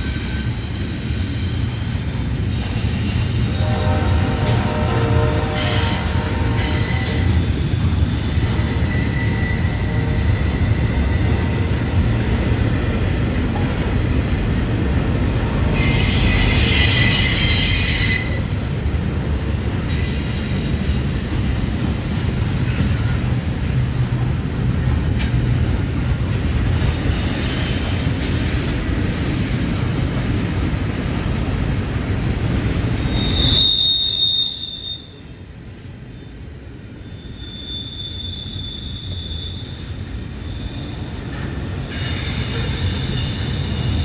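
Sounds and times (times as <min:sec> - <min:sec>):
wheels squealing on rail: 0:00.0 - 0:12.5, 0:14.9 - 0:18.8, 0:19.7 - 0:24.2, 0:25.0 - 0:31.1, 0:32.5 - 0:44.0
freight train wheels rumbling: 0:00.0 - 0:44.0.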